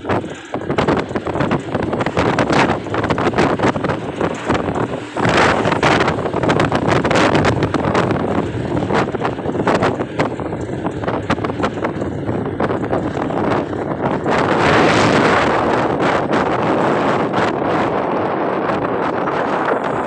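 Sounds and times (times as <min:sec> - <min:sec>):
moving vehicle road noise: 0:00.0 - 0:20.0
wind buffeting microphone: 0:00.0 - 0:20.0.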